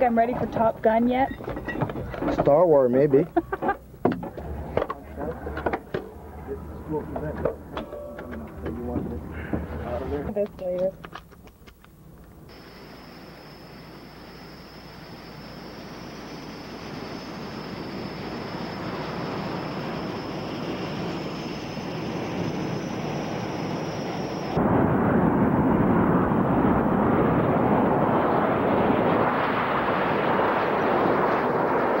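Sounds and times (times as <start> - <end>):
jets taking off: 0.0 - 10.4, 12.0 - 32.0
jet engines whining: 0.0 - 32.0.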